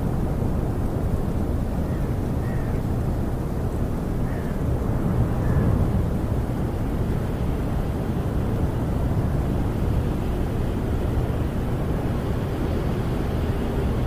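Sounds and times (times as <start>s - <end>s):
wind buffeting a camper: 0.0s - 14.0s.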